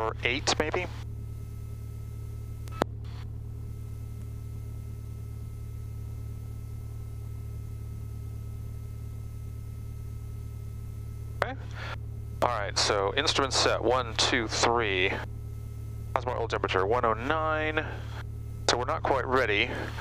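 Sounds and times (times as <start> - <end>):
aircraft engine idling: 0.0 - 20.0.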